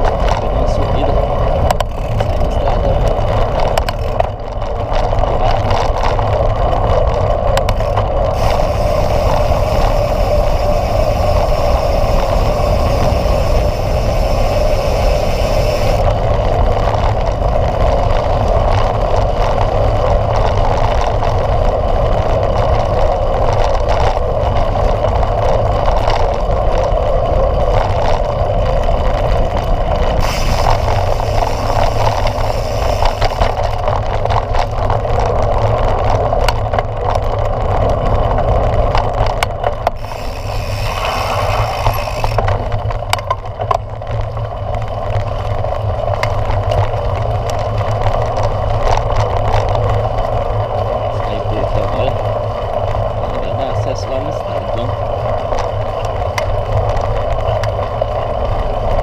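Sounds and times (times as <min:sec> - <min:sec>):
bike tyres rumbling on dirt: 0:00.0 - 0:59.0
wind rushing over microphone: 0:00.0 - 0:59.0.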